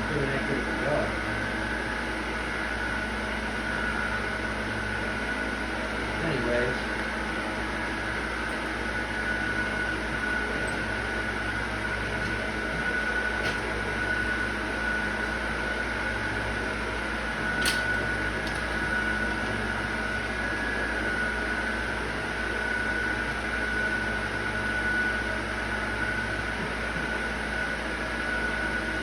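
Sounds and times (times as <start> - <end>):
faint high whine: 0.0 - 29.0
steady machine hum: 0.0 - 29.0.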